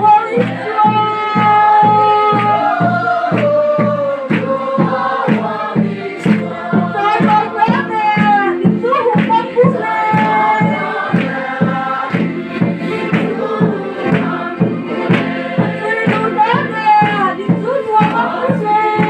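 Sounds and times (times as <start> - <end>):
congregation singing: 0.0 - 19.0
steady drum beat: 0.0 - 19.0.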